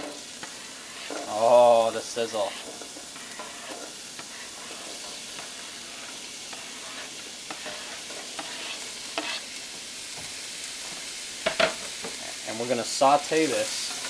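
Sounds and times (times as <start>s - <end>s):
vegetables sizzling in pan: 0.0s - 14.0s.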